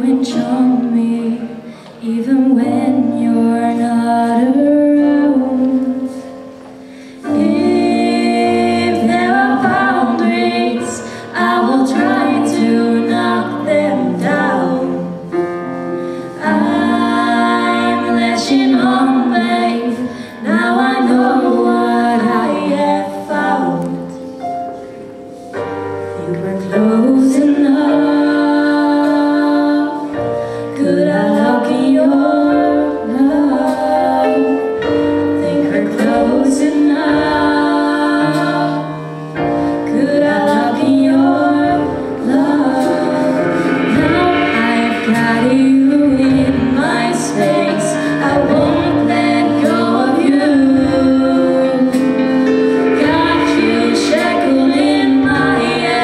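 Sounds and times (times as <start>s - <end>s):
young women singing pop ballad: 0.0s - 24.4s, 26.0s - 56.0s
stage piano: 0.0s - 56.0s.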